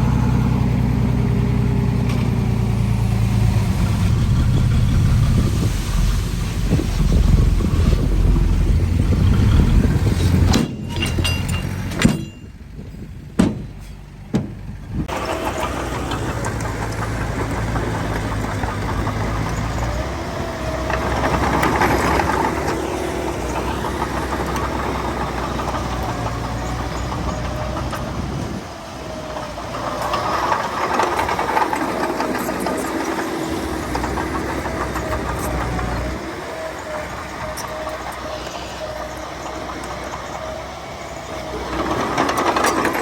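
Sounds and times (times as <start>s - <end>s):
heavy diesel machinery working: 0.0s - 43.0s.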